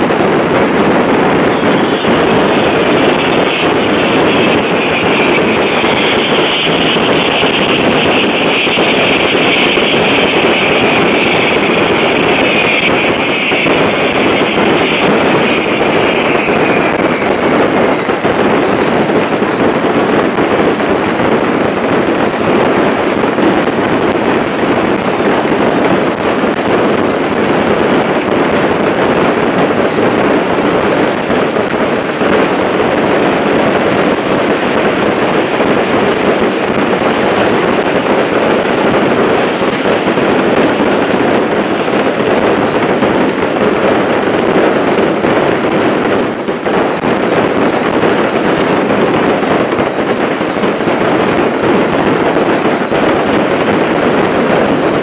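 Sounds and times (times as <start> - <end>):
firecrackers dense crackle: 0.0 - 55.0.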